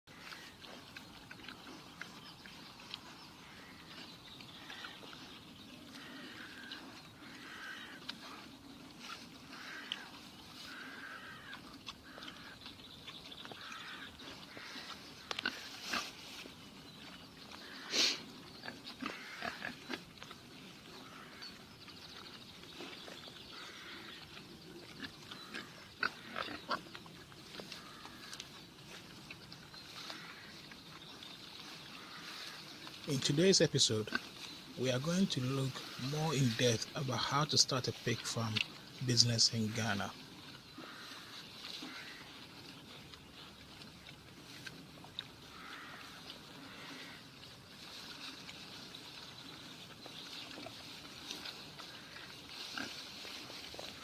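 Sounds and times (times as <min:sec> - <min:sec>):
faint steady background noise: 0:00.1 - 0:54.0
pigs calling: 0:00.1 - 0:54.0.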